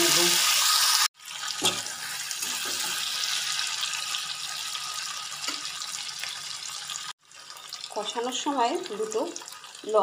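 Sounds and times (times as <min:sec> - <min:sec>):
spice paste sizzling in oil: 0:00.0 - 0:10.0.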